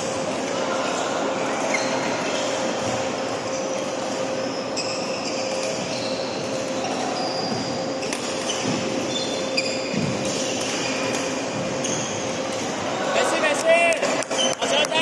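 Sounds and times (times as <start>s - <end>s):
hum of the hall: 0.0s - 15.0s
shoes squeaking on court floor: 0.0s - 15.0s.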